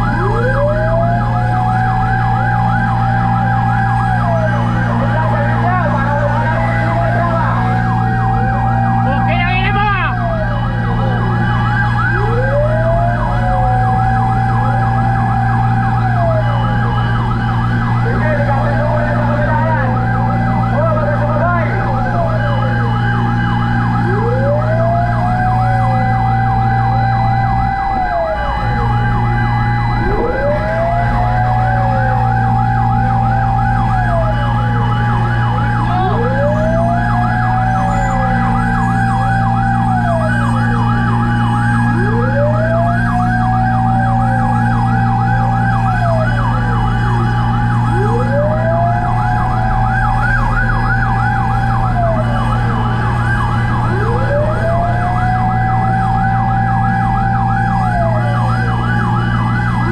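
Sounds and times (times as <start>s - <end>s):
diesel engine drone: 0.0s - 59.9s
fire truck siren wailing: 0.0s - 59.9s
fire truck siren yelping: 0.0s - 59.9s.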